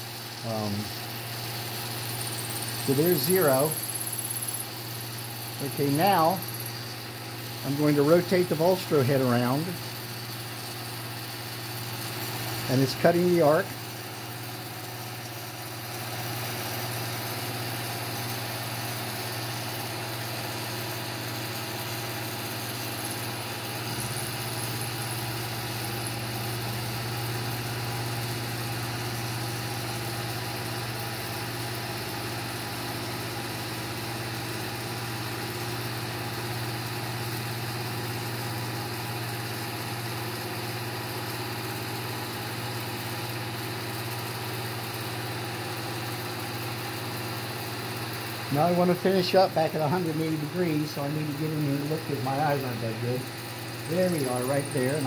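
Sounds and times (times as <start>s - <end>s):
milling machine humming: 0.0s - 55.0s.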